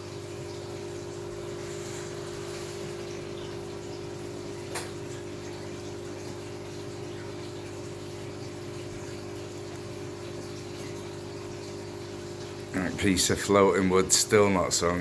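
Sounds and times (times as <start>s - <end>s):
aquarium pump hum and water rush: 0.0s - 15.0s.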